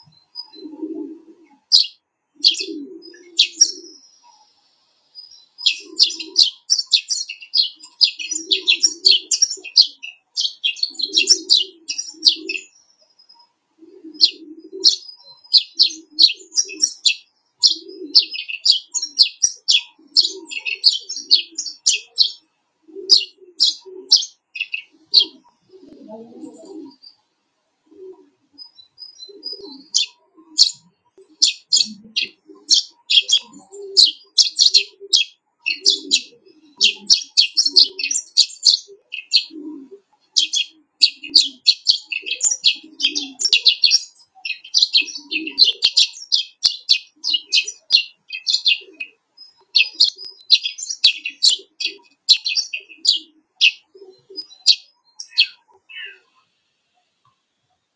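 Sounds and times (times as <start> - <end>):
sparrows chirping: 0.0 - 57.4
faint low bird calls: 0.0 - 57.8.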